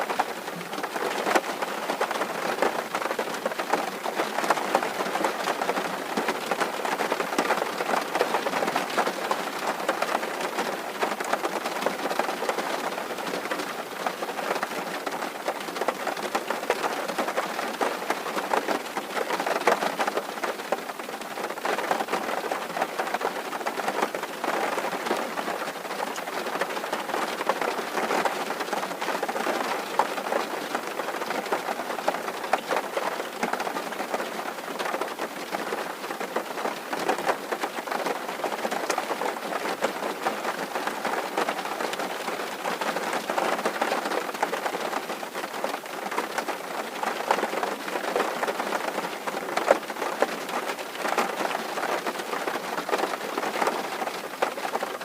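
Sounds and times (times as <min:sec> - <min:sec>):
rain on a tin roof: 0:00.0 - 0:55.0.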